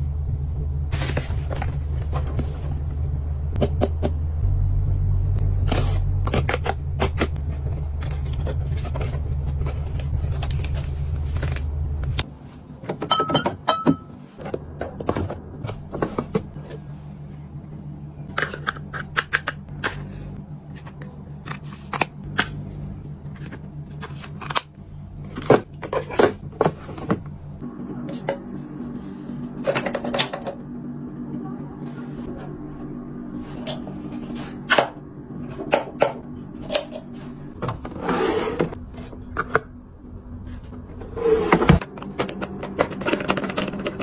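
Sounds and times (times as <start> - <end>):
steady low rumble: 0.0 - 12.5, 14.4 - 38.0, 38.6 - 41.2.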